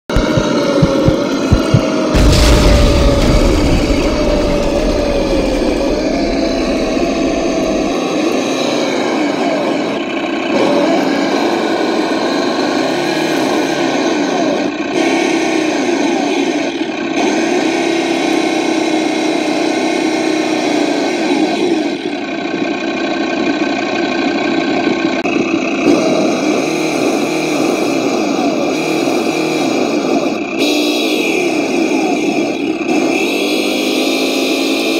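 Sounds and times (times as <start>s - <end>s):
simulated engine sound from speaker: 0.1s - 34.9s.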